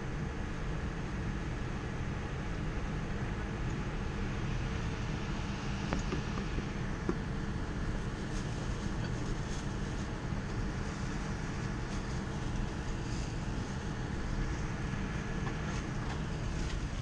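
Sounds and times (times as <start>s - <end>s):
aircraft cabin rumble and hiss: 0.0s - 17.0s.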